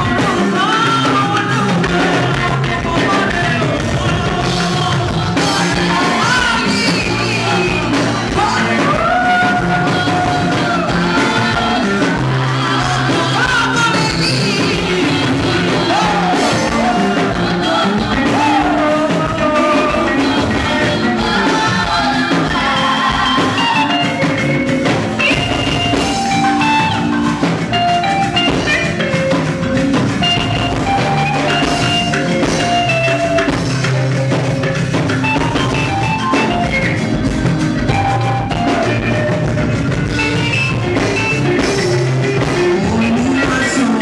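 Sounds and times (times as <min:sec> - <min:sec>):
drum kit: 0:00.0 - 0:44.0
guitar: 0:00.0 - 0:44.0
person singing: 0:00.0 - 0:44.0.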